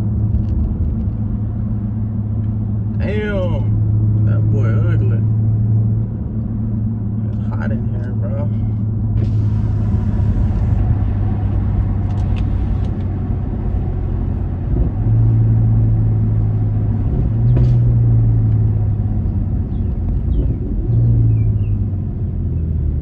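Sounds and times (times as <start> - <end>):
car engine drone from inside cabin: 0.0 - 23.0.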